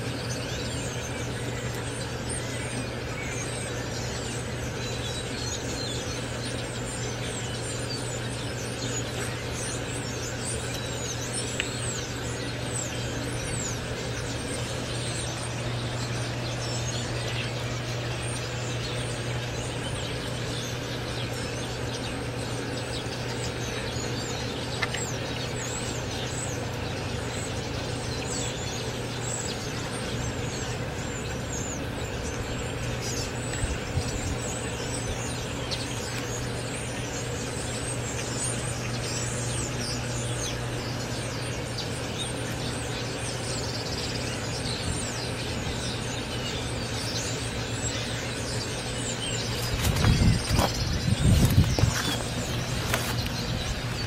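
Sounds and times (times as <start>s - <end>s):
blackbirds chirping and whistling: 0.0s - 54.0s
steady low hum: 0.0s - 54.0s.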